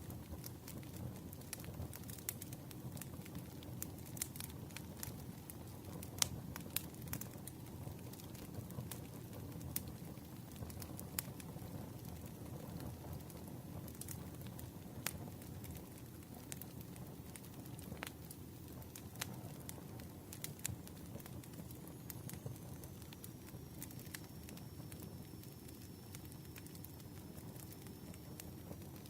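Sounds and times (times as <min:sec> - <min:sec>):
burning wood crackling and popping: 0:00.0 - 0:29.0
campfire flames rumbling: 0:00.0 - 0:29.0.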